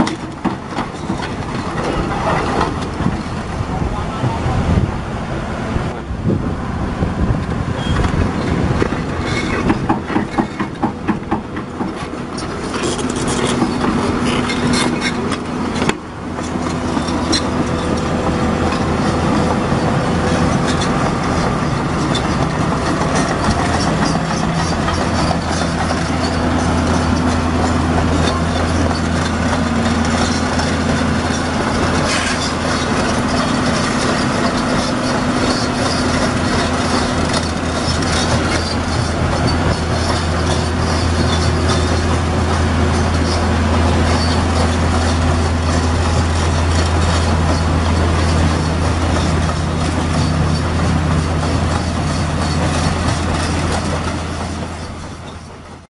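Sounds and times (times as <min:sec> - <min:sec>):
excavator diesel engine: 0:00.0 - 0:55.9
steel tracks clanking: 0:00.0 - 0:55.9.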